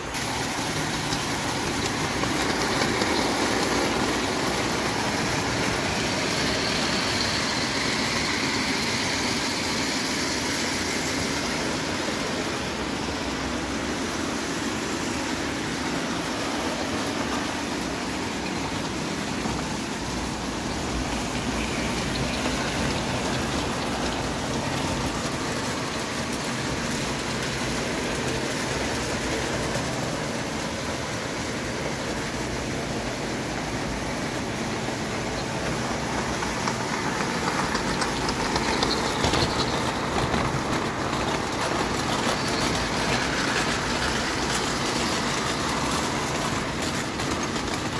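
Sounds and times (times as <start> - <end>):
toy train rolling on track: 0.0 - 47.9.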